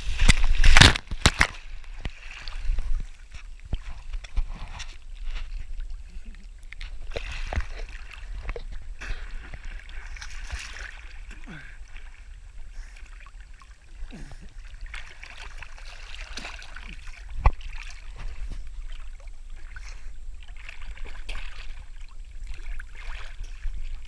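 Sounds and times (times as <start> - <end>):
creek water lapping and splashing: 0.0 - 24.0.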